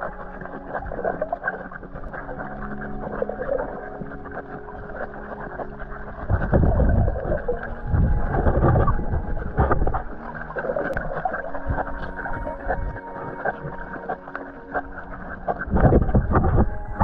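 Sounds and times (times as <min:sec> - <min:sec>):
muffled water sloshing: 0:00.0 - 0:17.0.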